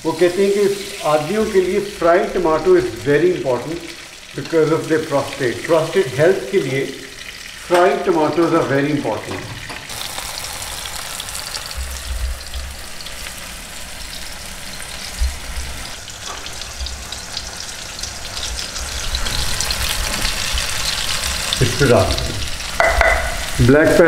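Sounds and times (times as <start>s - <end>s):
food sizzling in frying pan: 0.0s - 24.0s.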